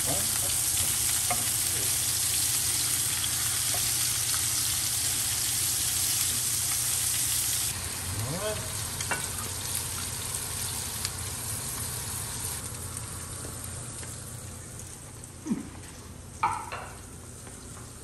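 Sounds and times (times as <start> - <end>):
patties sizzling in grill pan: 0.0 - 15.4.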